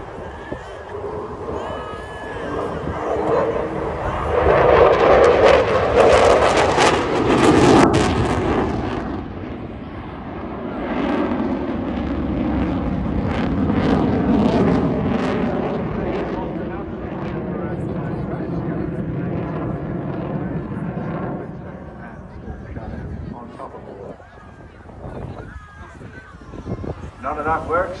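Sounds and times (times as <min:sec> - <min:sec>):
fast jet crackling rumble: 0:00.0 - 0:28.0.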